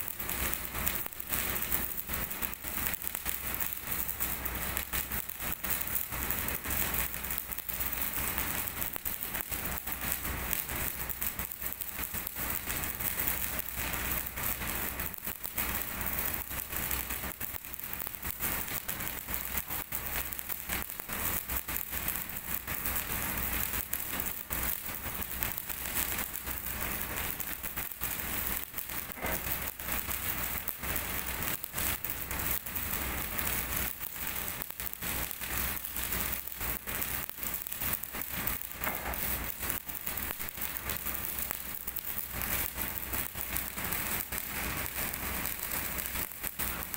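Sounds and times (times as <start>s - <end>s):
welding arc crackling: 0.0s - 46.9s.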